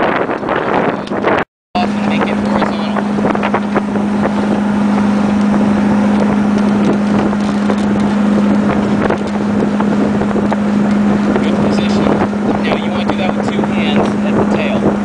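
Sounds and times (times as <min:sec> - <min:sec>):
steady low-pitched hum: 0:00.0 - 0:15.0
wind buffeting microphone: 0:00.0 - 0:15.0.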